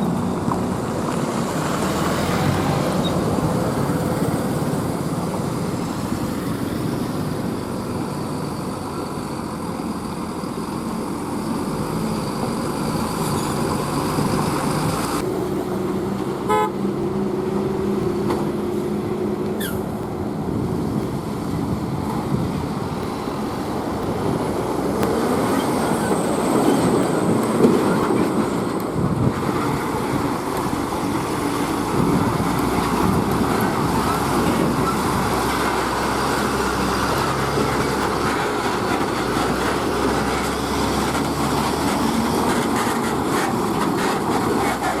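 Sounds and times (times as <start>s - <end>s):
trucks driving past: 0.0s - 45.0s.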